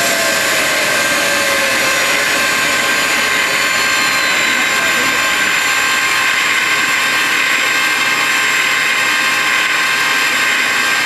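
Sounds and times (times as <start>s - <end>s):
high turbine whine: 0.0s - 11.0s
jet engine roaring: 0.0s - 11.0s.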